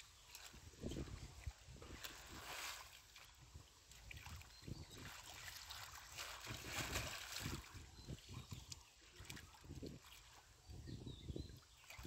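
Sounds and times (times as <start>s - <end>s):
hands splashing in muddy water: 0.2s - 10.3s.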